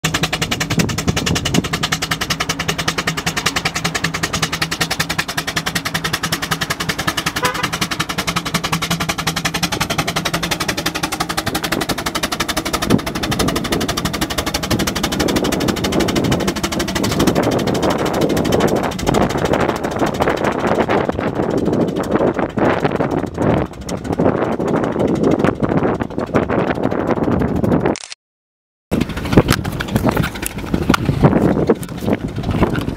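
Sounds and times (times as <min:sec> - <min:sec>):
rough low rumble: 0:00.0 - 0:27.9, 0:28.9 - 0:32.9
steam roller engine clatter: 0:00.0 - 0:27.9, 0:28.9 - 0:32.9.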